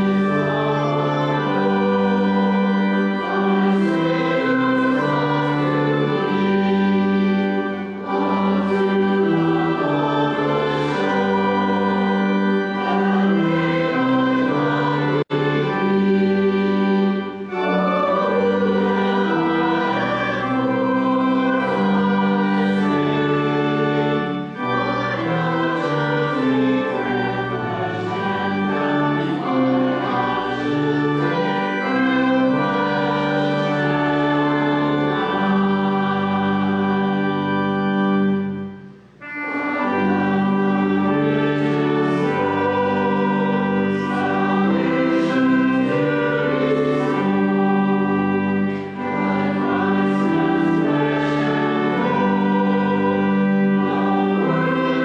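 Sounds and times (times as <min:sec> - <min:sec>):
choir singing a slow hymn: 0:00.0 - 0:38.4, 0:39.3 - 0:55.0.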